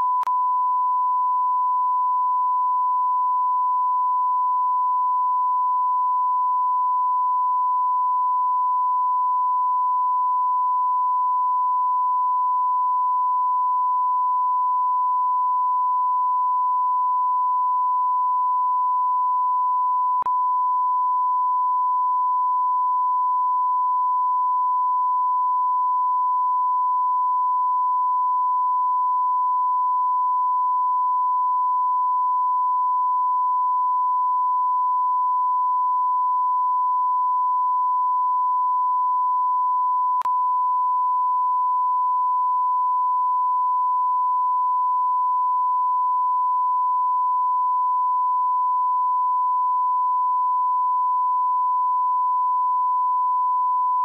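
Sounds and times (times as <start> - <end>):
sine wave test tone: 0.0 - 54.0.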